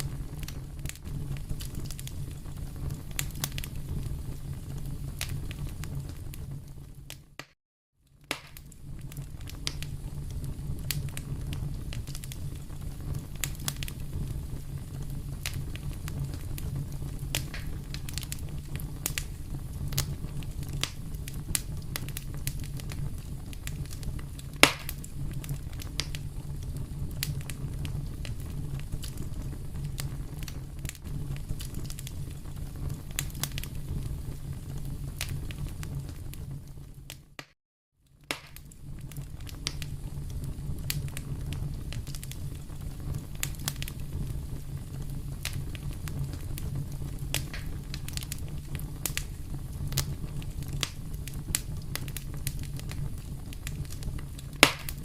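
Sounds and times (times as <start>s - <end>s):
low rumble of flames: 0.0s - 7.4s, 8.0s - 37.4s, 38.0s - 55.0s
wood fire crackling: 0.0s - 55.0s.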